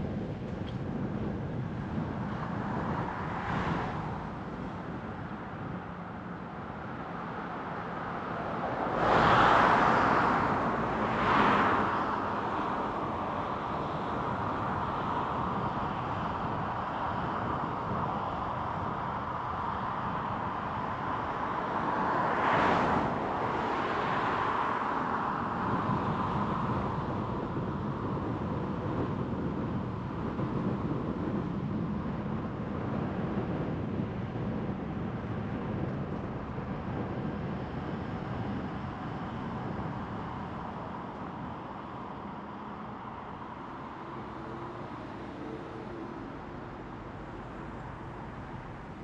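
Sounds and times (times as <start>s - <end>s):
car engine and tyre noise: 0.0s - 49.0s.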